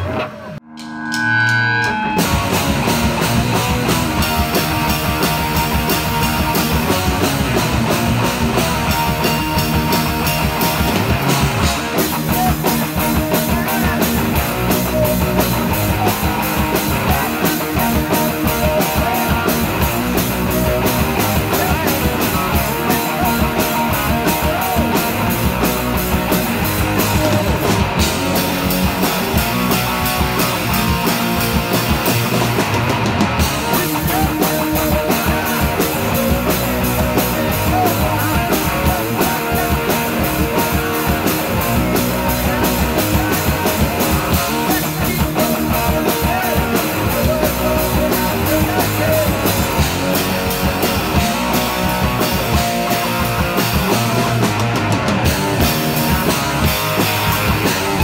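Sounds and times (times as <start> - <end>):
loud rock music: 0.0 - 58.0.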